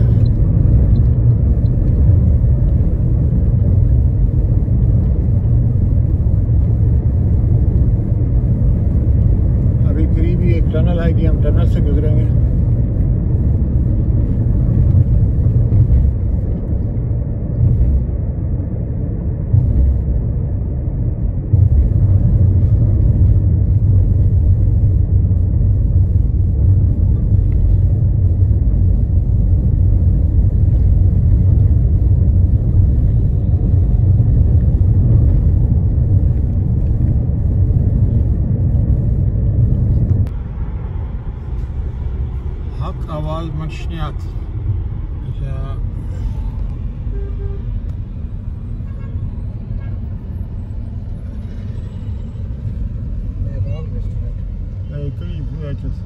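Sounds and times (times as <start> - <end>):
car tyre and engine rumble: 0.0 - 56.0.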